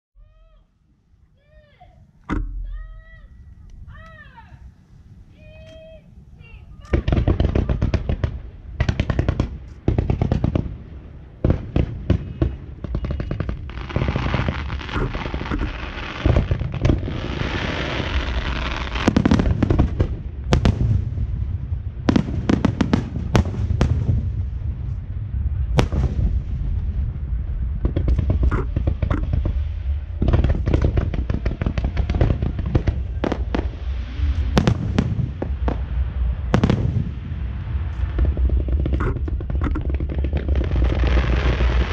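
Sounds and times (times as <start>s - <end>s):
steady low rumble: 2.0s - 41.9s
firework crackling: 2.5s - 41.9s
firework bangs: 6.1s - 41.9s.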